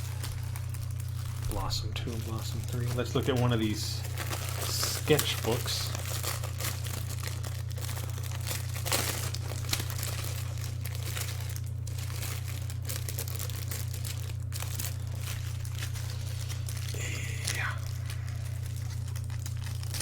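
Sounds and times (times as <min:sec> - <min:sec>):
low electrical hum: 0:00.0 - 0:20.0
packaging crinkling and rustling: 0:00.0 - 0:20.0.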